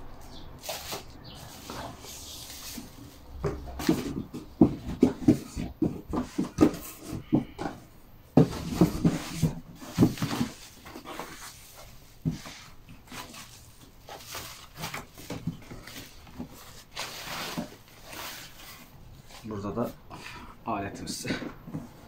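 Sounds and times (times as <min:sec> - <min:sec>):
plastic wrapping rustling: 0:00.2 - 0:07.3, 0:08.4 - 0:20.1
cardboard box being handled: 0:00.6 - 0:07.8, 0:08.4 - 0:20.0.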